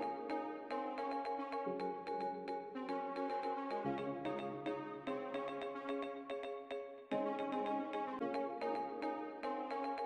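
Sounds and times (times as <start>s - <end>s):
background music of quick notes: 0.0s - 10.0s.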